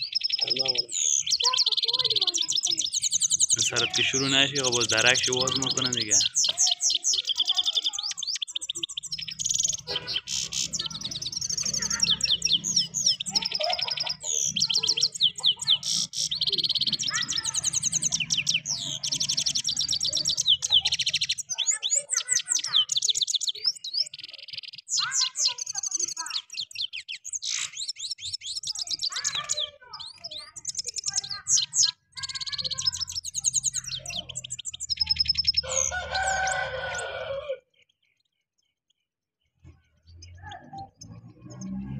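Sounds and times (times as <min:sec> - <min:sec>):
finches twittering: 0:00.0 - 0:37.3.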